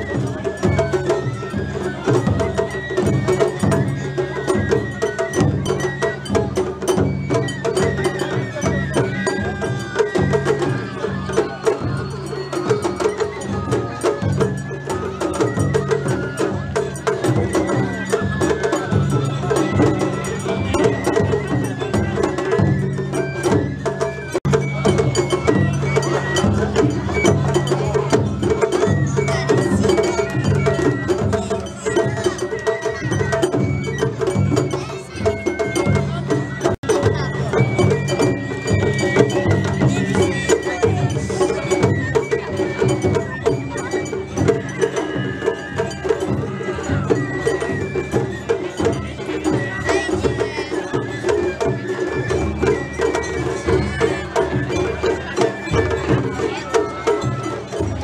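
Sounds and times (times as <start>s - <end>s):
drum strokes: 0.0s - 58.0s
high flute-like melody: 0.0s - 58.0s
sharp clicking percussion: 0.1s - 50.2s.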